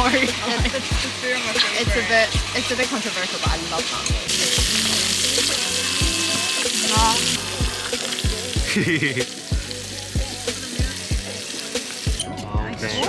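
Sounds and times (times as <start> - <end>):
food sizzling: 0.0 - 13.0
music with steady beat: 0.0 - 13.0.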